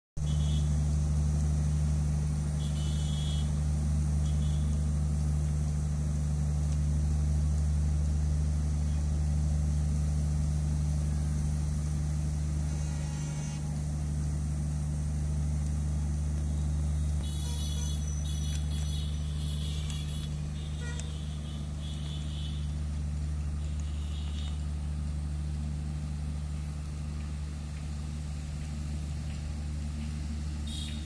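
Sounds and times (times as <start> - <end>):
diesel locomotive engine running: 0.2 - 31.0.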